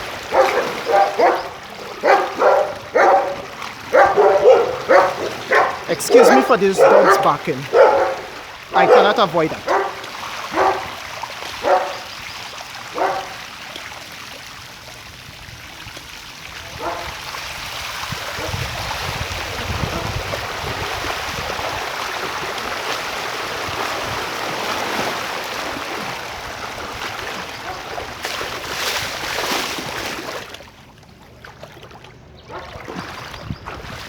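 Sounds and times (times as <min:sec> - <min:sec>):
rushing floodwater: 0:00.0 - 0:34.0.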